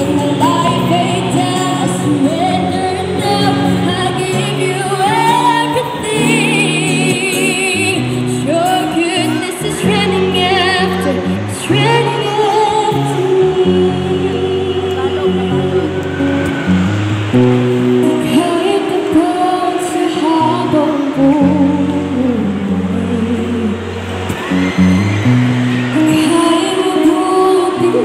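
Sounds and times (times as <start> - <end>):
woman singing into microphone: 0.0 - 16.4, 18.0 - 24.3, 25.9 - 28.0
strummed acoustic guitar: 0.0 - 28.0.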